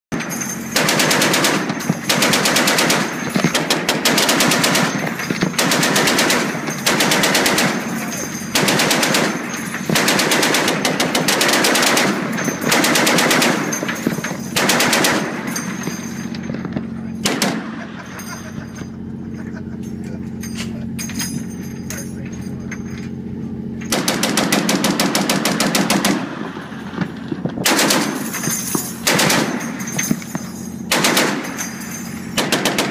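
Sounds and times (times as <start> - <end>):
heavy machine gun bursts: 0.1 - 22.6, 23.6 - 32.9.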